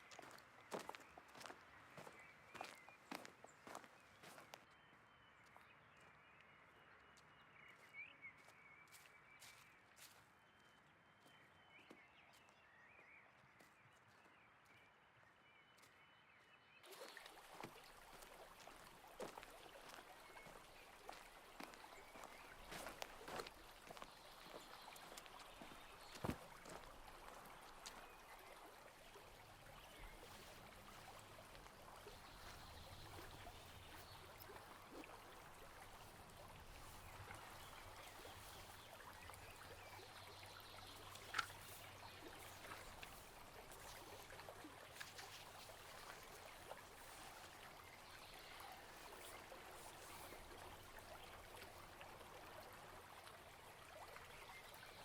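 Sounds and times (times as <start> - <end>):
faint trickle of water: 0.0 - 55.0.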